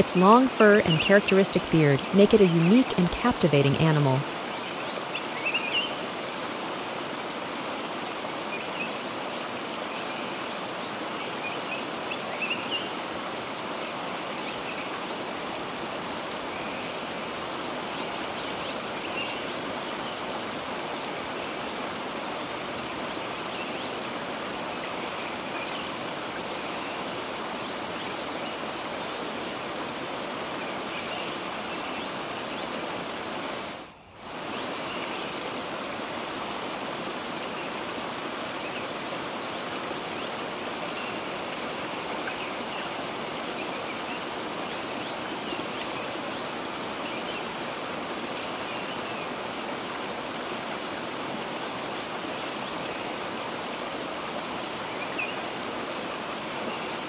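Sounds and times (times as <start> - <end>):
rush of running water: 0.0 - 57.0.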